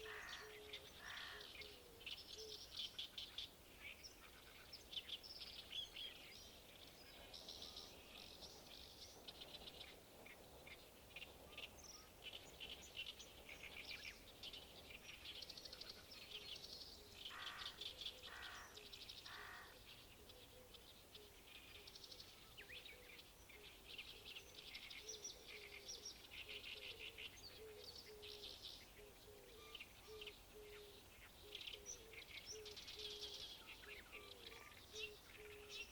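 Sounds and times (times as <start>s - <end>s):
low bird calls: 0.0s - 35.9s
songbirds chirping: 0.0s - 35.9s.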